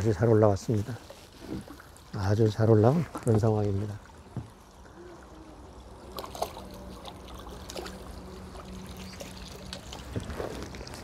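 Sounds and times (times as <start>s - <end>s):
fish splashing in water: 1.0s - 11.0s.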